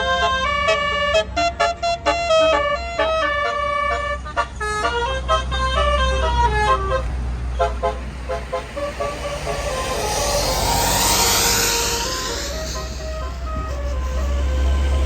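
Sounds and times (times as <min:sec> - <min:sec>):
bus engine rumble: 0:00.0 - 0:15.0
multi-tone air horn melody: 0:00.0 - 0:15.0.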